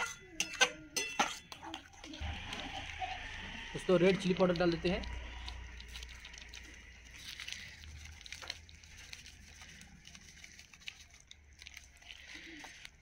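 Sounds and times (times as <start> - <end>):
low steady hum: 0.0 - 13.0
spices crackling in a wok: 0.0 - 13.0.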